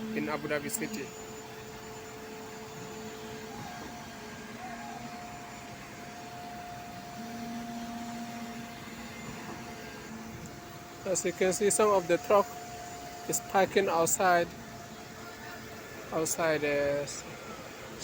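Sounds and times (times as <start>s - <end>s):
concrete pump trucks running: 0.0s - 18.0s
held whining tones: 0.0s - 18.0s.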